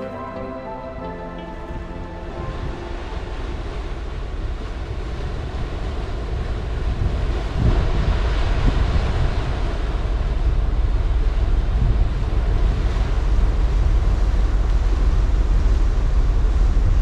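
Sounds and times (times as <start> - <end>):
low rumble of ship: 0.0 - 17.0
wind buffeting microphone: 1.6 - 17.0.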